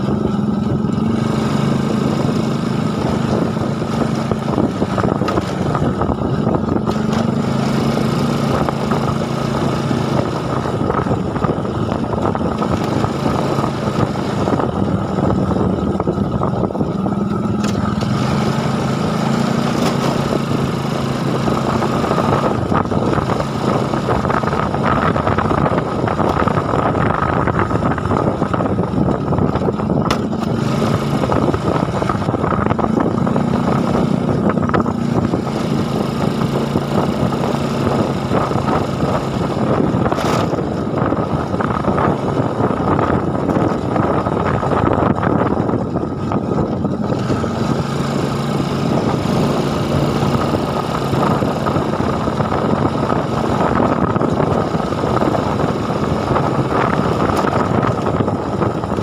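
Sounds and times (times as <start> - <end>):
engine running steadily: 0.0 - 59.0
wind or road noise: 0.0 - 59.0.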